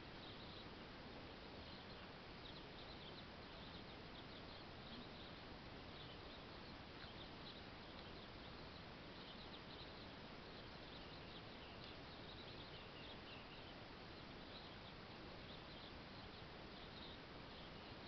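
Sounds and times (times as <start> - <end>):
distant small birds chirping: 0.0 - 18.0
faint steady hiss: 0.0 - 18.0.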